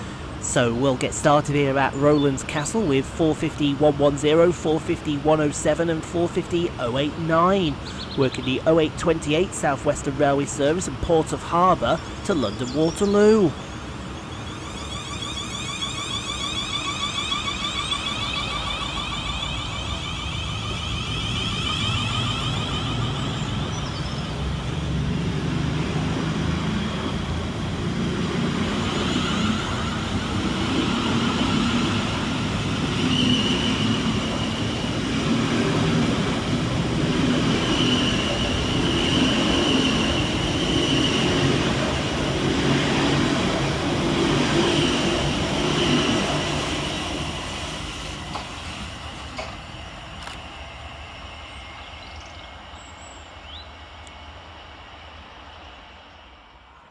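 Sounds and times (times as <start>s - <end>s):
electric train motors whining: 0.0s - 56.9s
train low rumble: 0.0s - 56.9s.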